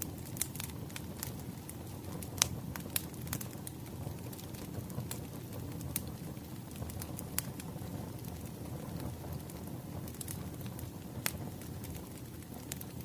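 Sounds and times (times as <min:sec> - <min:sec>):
logs crackling and popping: 0:00.0 - 0:13.0
wood fire rumbling: 0:00.0 - 0:13.0.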